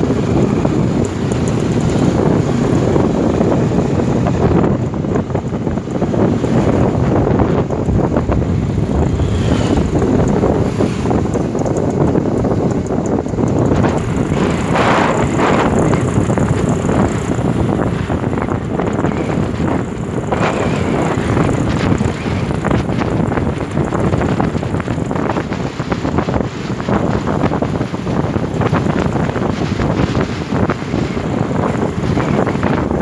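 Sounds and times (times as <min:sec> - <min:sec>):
motorcycle engine: 0:00.0 - 0:33.0
road noise: 0:00.0 - 0:33.0
wind buffeting microphone: 0:00.0 - 0:33.0.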